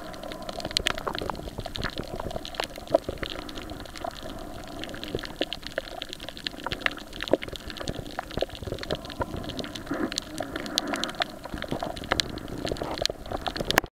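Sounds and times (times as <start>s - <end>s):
underwater watery hiss: 0.0s - 13.6s
sharp clicks and crackles: 0.0s - 13.9s.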